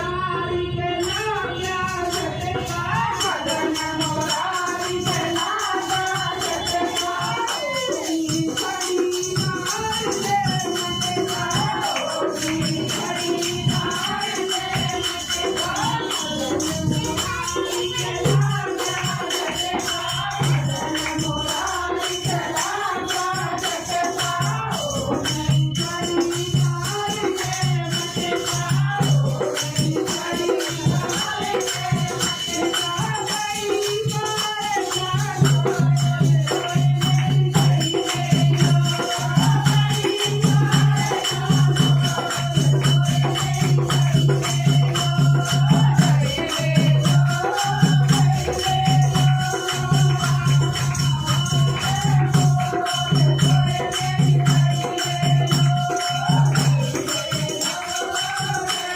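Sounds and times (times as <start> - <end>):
woman singing: 0.0 - 58.9
rattles and tambourine jingles: 3.5 - 58.9.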